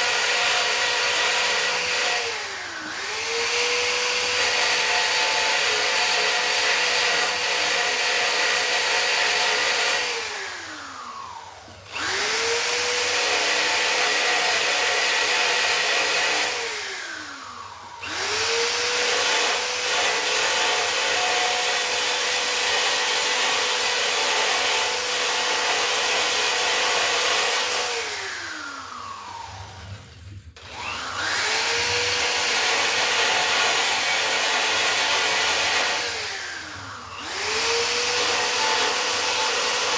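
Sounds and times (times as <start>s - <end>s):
electric grinder whining: 0.0s - 39.9s.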